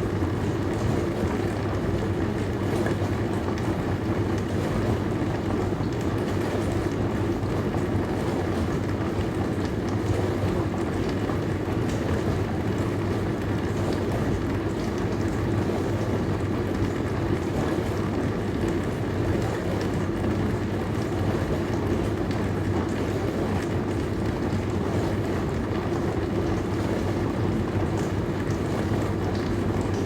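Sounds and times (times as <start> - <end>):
dishwasher running: 0.0 - 30.0.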